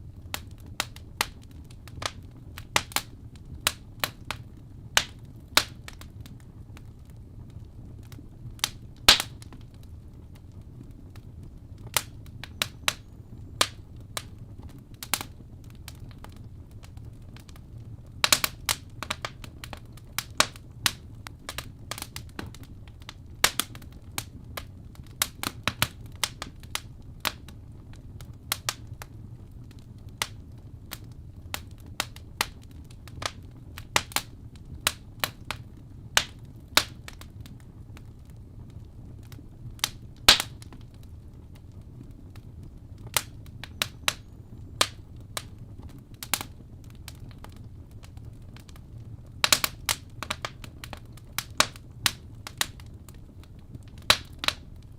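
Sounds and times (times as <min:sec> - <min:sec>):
sharp fire pops: 0:00.0 - 0:54.9
wood fire crackling: 0:00.0 - 0:54.9.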